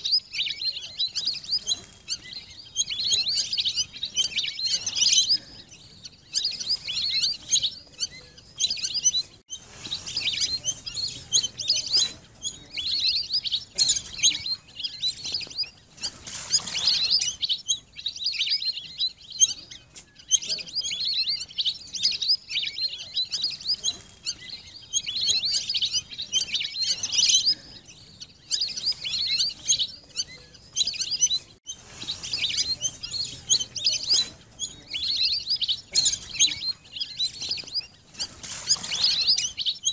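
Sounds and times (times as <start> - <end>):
ducks whistling calls: 0.0 - 39.9.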